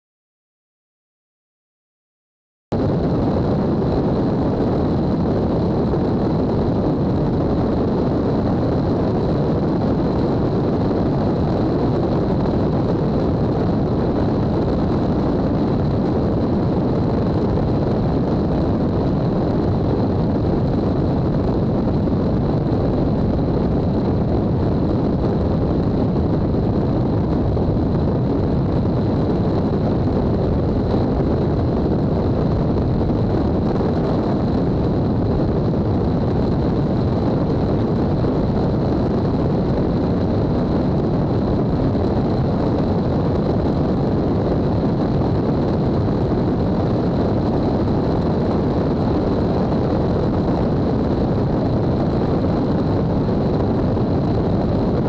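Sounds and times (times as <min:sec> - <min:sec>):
rush of wind: 0:02.7 - 0:55.0
airplane engine and propeller: 0:02.8 - 0:55.0.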